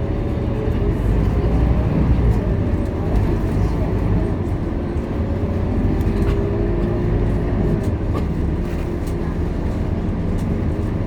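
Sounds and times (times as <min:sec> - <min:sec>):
bus engine rumble with whine: 0:00.0 - 0:11.0.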